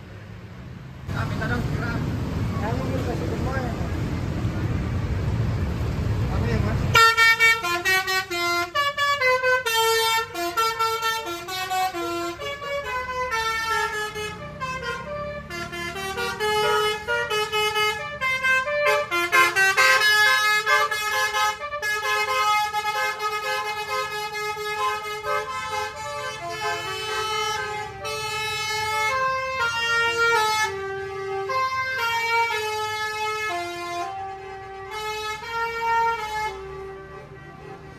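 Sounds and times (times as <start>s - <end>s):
melodic bus horn playing tune: 6.9s - 37.9s.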